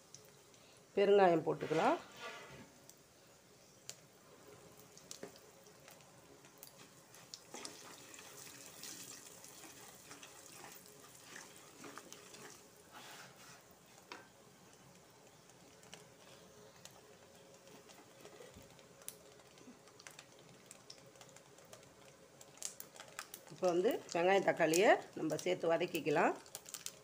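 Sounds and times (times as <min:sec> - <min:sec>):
hot oil sizzling with pops: 0:00.0 - 0:00.7, 0:02.7 - 0:27.0.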